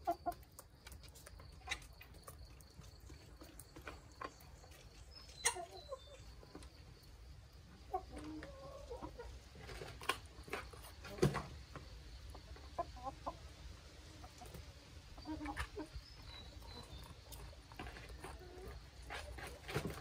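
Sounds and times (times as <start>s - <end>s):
beaks pecking at feed basin: 0.0s - 13.4s, 14.2s - 20.0s
chickens clucking softly: 0.0s - 20.0s.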